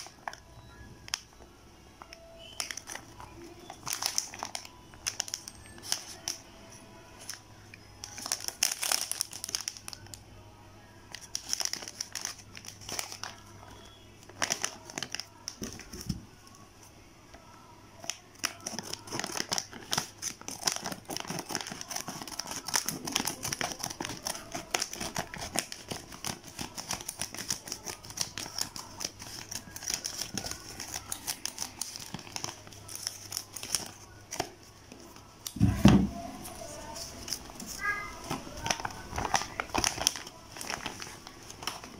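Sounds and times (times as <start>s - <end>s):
plastic packaging crinkling: 2.0s - 6.4s, 8.0s - 10.2s, 11.1s - 16.2s, 18.0s - 34.6s, 36.2s - 41.9s.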